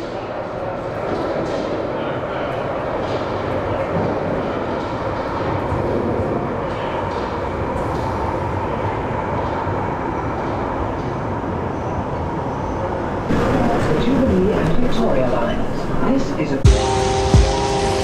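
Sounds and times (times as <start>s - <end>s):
train rumble with whining tone: 0.0s - 18.0s.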